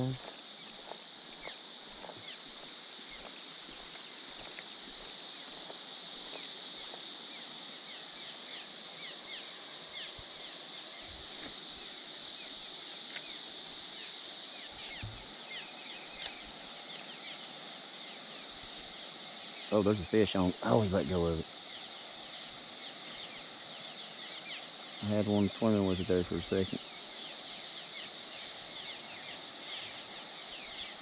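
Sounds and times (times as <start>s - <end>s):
cicada chorus droning: 0.0s - 31.0s.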